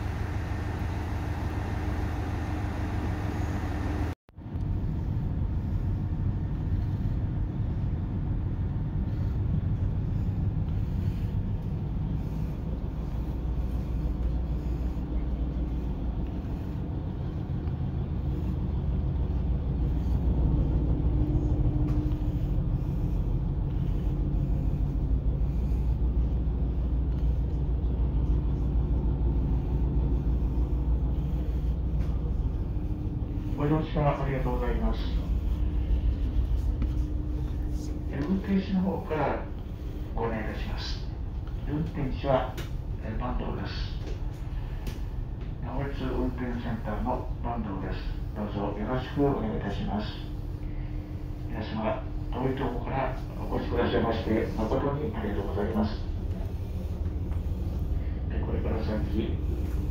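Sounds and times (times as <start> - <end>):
diesel railcar engine idling: 0.0 - 59.9.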